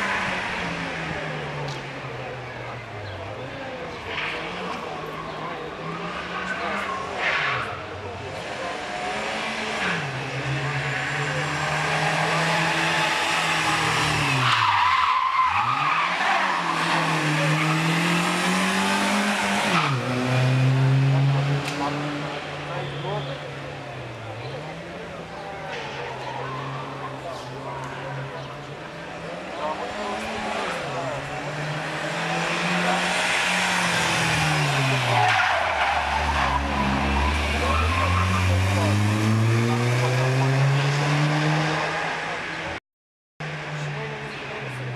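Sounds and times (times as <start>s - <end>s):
rally car engine at high revs: 0.0s - 42.8s, 43.4s - 44.9s.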